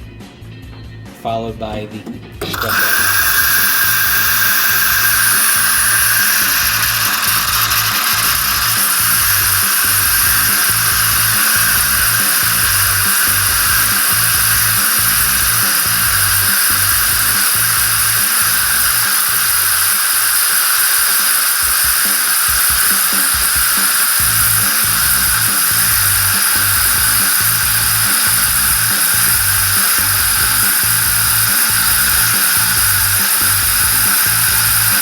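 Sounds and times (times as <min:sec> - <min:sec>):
background music with beat: 0:00.0 - 0:19.6, 0:21.2 - 0:35.0
espresso machine frothing milk: 0:02.4 - 0:35.0.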